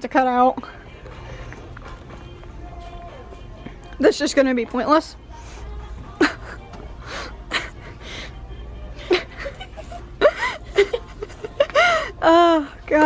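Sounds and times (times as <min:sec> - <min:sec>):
steady low hum: 0:00.6 - 0:12.9.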